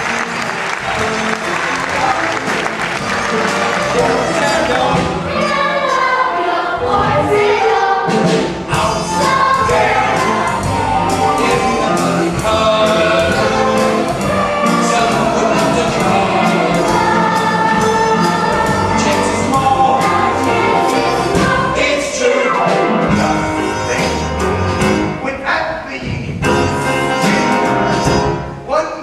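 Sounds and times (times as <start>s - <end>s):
ensemble singing with accompaniment: 0.1s - 28.7s.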